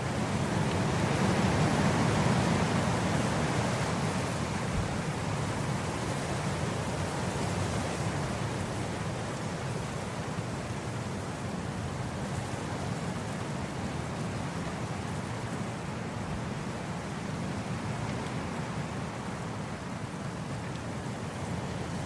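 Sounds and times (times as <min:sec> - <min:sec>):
wind blowing across grass: 0:00.0 - 0:22.0.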